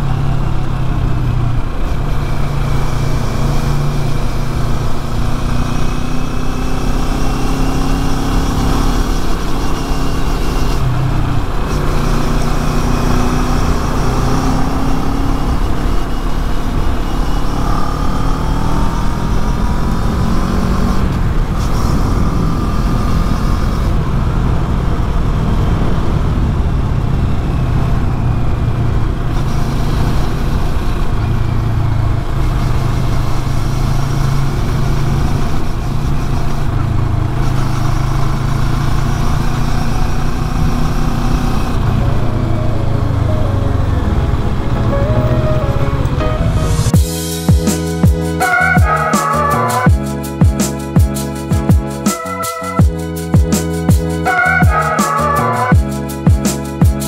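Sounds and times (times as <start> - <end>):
motorcycle engine running: 0.0 - 44.9, 46.9 - 57.0
wind and road rumble: 0.0 - 48.5.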